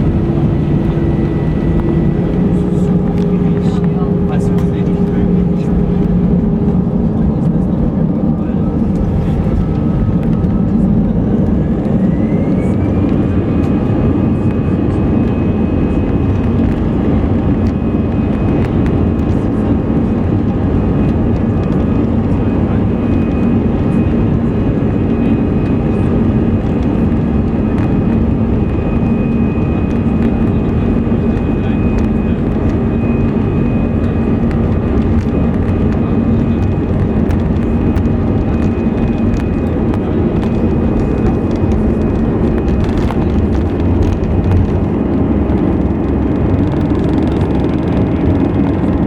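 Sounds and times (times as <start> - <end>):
airplane cabin engine hum: 0.0 - 49.0.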